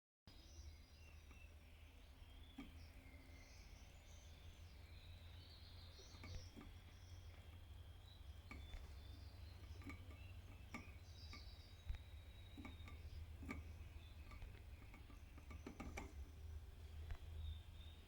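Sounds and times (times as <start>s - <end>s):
canary chirping: 0.3s - 18.0s
low steady hum: 0.3s - 18.0s
faint clicks and taps: 1.2s - 18.0s.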